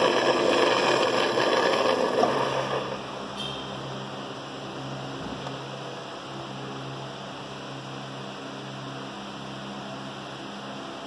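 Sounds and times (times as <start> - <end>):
coffee machine humming and hissing: 0.0 - 11.0.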